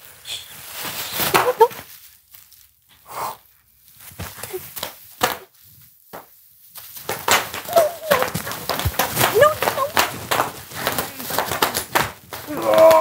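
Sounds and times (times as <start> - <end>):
bubble wrap crinkling: 0.0 - 13.0
bubble wrap popping: 0.0 - 13.0.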